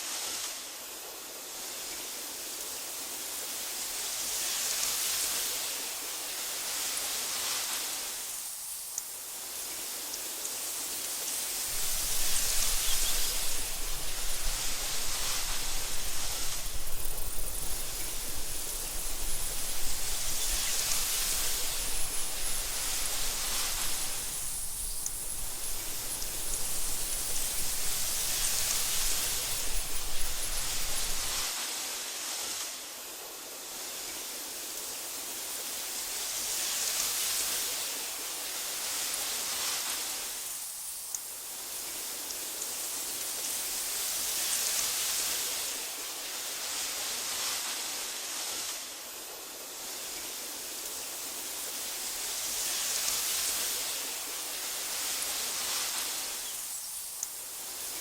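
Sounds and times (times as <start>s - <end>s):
wind blowing through grass: 0.0s - 58.0s.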